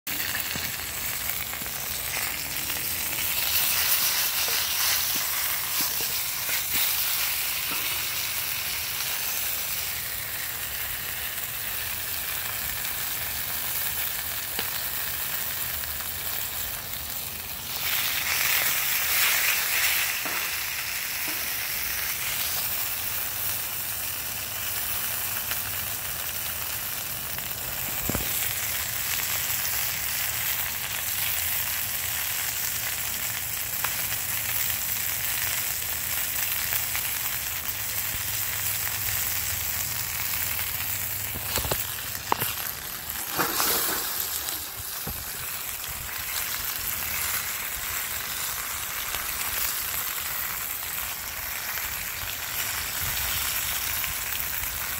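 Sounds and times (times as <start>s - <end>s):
chicken sizzling in hot oil: 0.1s - 54.9s.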